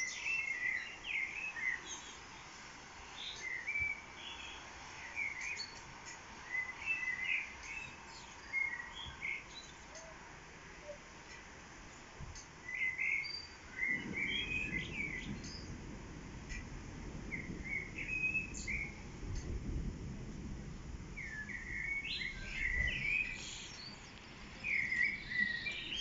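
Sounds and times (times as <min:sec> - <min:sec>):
songbirds singing and chirping: 0:00.0 - 0:19.7, 0:21.0 - 0:26.0
faint steady hiss: 0:00.0 - 0:26.0.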